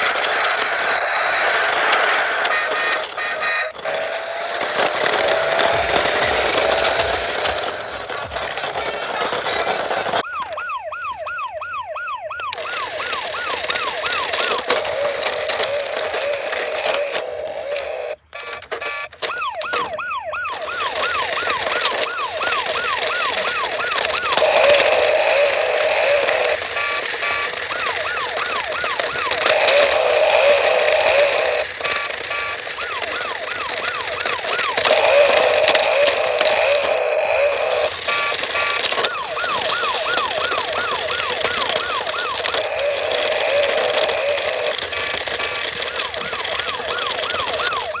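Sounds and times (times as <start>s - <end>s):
toy electronic siren wail: 0.0s - 48.0s.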